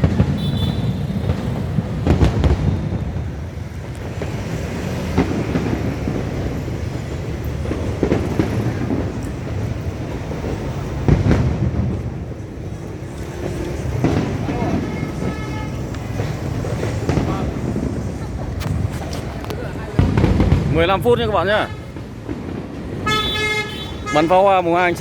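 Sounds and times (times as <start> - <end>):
distant fireworks booming: 0.0 - 25.0
street and crowd noise: 0.0 - 25.0.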